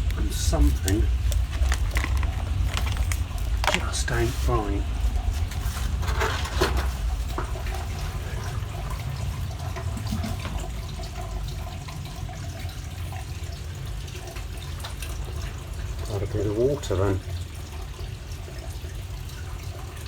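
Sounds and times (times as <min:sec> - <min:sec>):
water running: 0:00.0 - 0:20.0.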